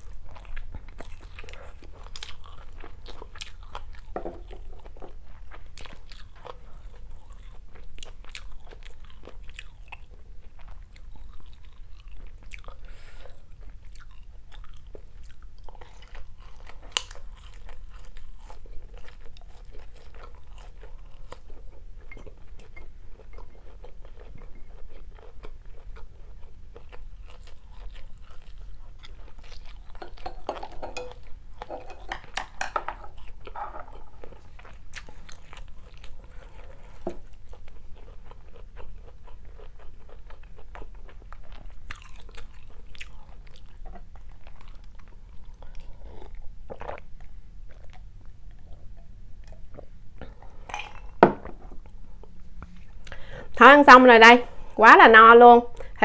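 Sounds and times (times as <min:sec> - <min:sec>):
close chewing and biting: 0:00.0 - 0:53.3.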